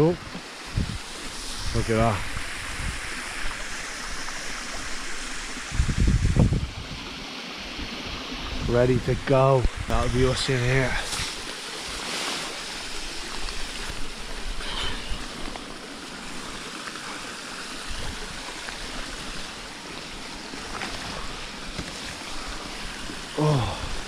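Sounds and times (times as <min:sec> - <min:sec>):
mountain stream and waterfall: 0:00.0 - 0:24.0.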